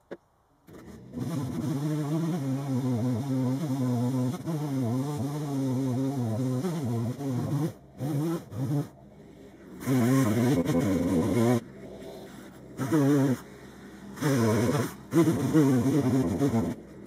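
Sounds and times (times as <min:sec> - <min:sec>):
chainsaw running at high revs: 0:00.7 - 0:17.0.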